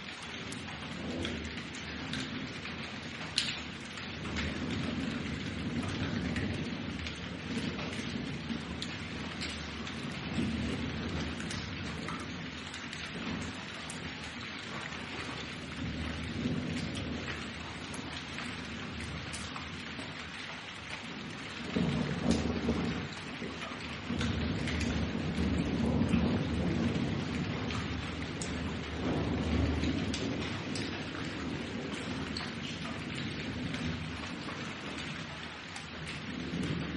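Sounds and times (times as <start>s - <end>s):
rain falling: 0.0s - 36.9s
rolling thunder: 0.5s - 20.3s, 21.0s - 36.9s.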